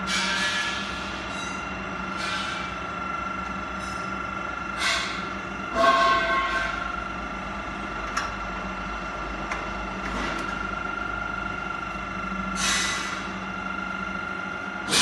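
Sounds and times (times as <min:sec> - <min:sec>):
bending machine motor hum: 0:00.0 - 0:15.0.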